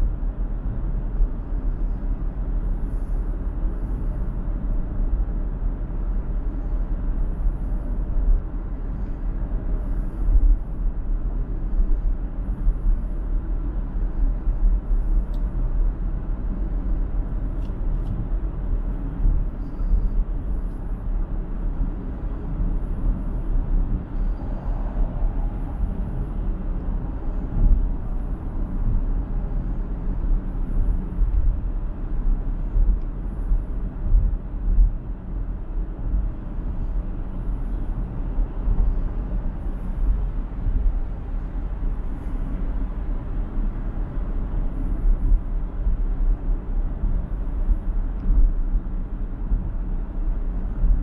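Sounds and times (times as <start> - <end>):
road and tyre noise: 0.0 - 51.0.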